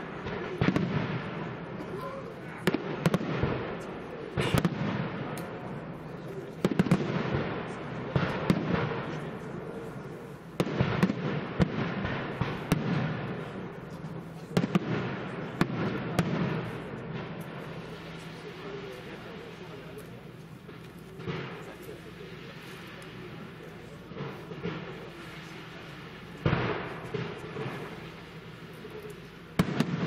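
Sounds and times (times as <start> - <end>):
continuous rumble: 0.0 - 30.0.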